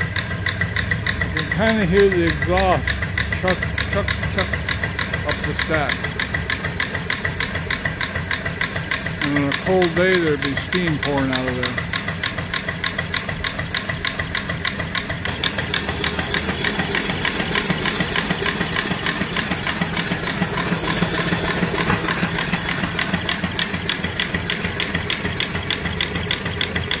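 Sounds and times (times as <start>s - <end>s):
steam engine exhaust chuffing: 0.0s - 27.0s.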